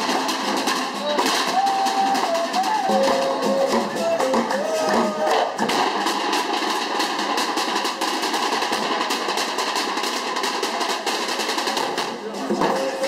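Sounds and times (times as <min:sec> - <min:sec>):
percussion group drumming with sticks: 0:00.0 - 0:13.0.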